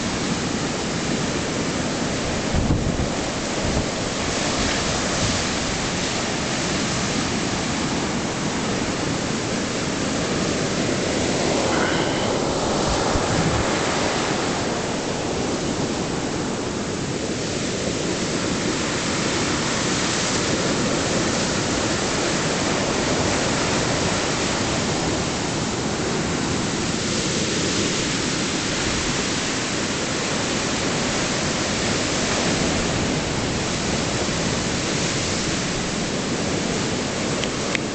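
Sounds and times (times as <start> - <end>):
waves breaking on beach: 0.0 - 37.9.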